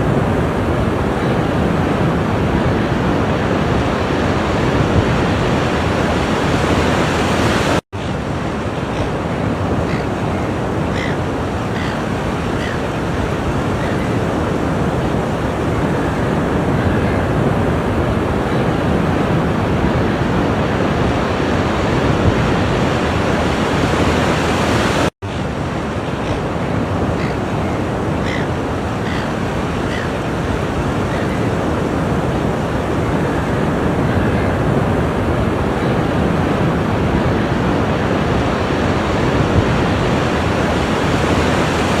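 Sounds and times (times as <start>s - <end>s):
ocean waves breaking: 0.0s - 42.0s.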